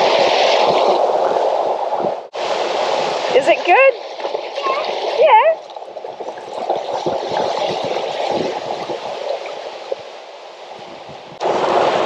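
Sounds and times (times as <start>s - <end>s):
water sloshing around wading legs: 0.0s - 11.9s.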